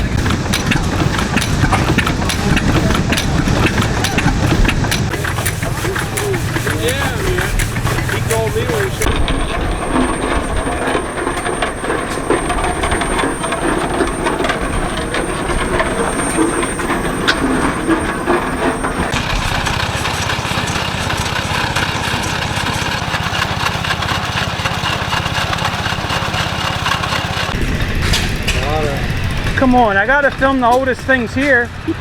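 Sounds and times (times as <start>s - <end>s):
antique engines chugging: 0.0s - 32.0s.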